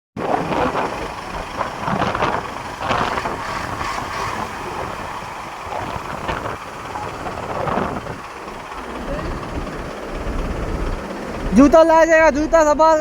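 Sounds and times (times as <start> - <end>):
heavy vehicle engine running: 0.2 - 13.0
noisy rushing: 0.2 - 13.0.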